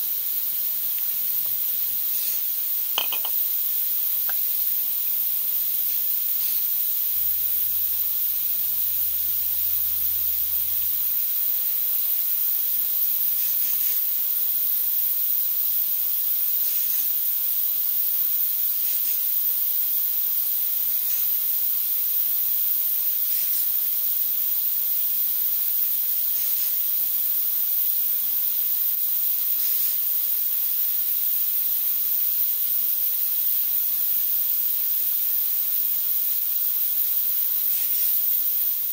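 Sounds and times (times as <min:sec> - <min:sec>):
high-pitched hiss: 0:00.0 - 0:38.9.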